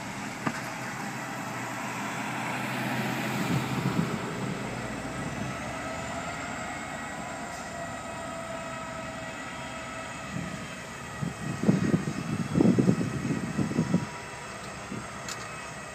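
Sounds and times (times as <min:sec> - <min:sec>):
diesel locomotive drone: 0:00.0 - 0:15.9.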